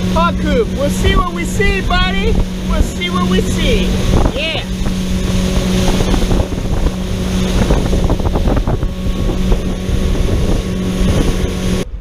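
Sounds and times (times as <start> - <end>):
outboard motor running: 0.0 - 12.0
wind noise on microphone: 0.0 - 12.0.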